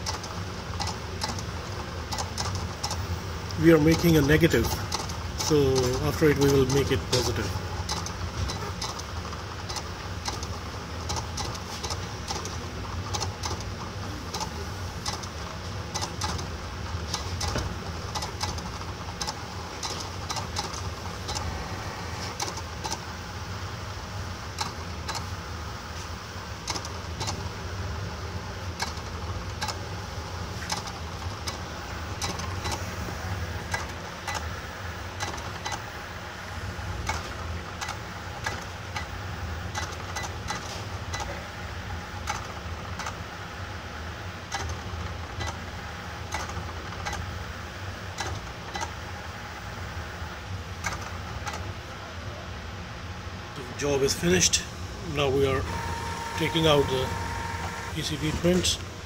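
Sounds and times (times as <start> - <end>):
plotter motors humming: 0.0 - 52.0, 53.5 - 59.0.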